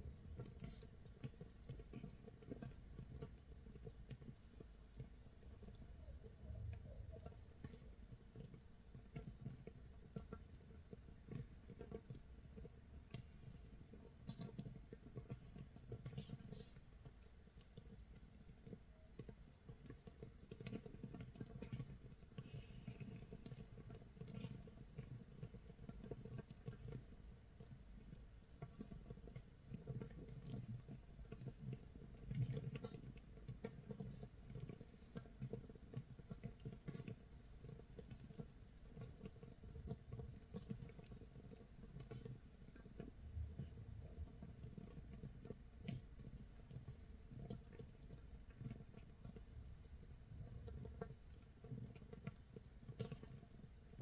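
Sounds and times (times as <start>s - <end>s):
fermenting mash fizzing and popping: 0.0s - 54.0s.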